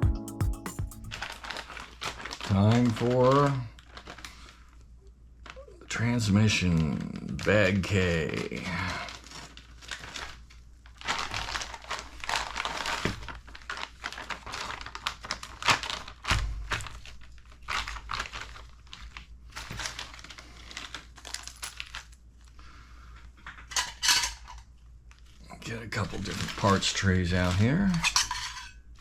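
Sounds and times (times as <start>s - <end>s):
plastic bag crinkling: 1.0s - 29.0s.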